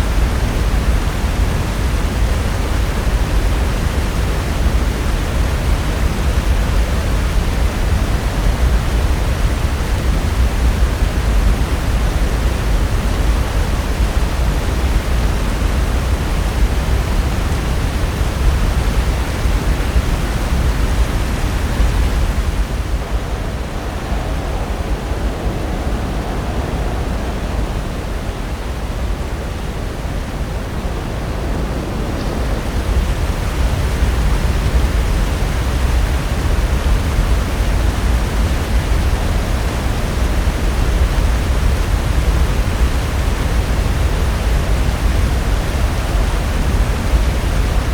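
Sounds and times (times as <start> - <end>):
ocean surf breaking: 7.4 - 47.9.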